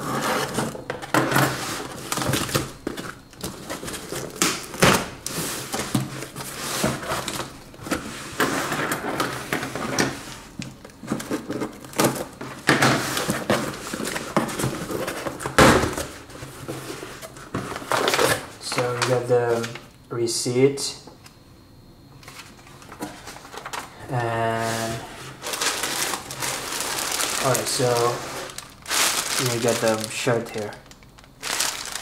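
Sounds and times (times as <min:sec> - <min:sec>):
cardboard rustling and scraping: 0:00.0 - 0:19.8, 0:22.2 - 0:32.0.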